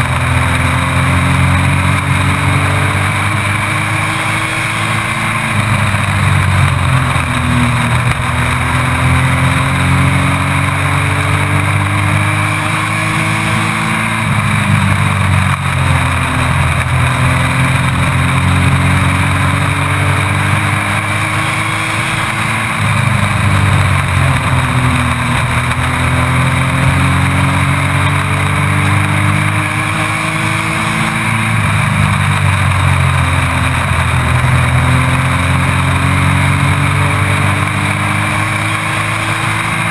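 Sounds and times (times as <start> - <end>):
race truck engine: 0.0 - 39.9.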